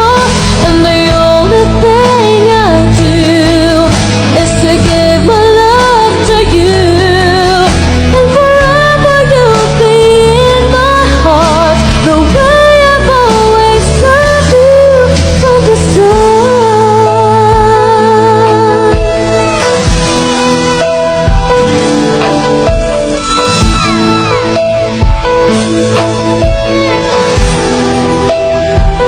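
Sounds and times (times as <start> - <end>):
pop song with sung melody: 0.0 - 29.0.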